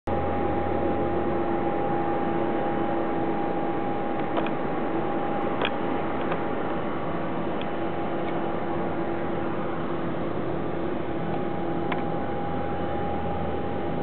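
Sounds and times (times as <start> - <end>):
jet engine whine: 0.1 - 14.0.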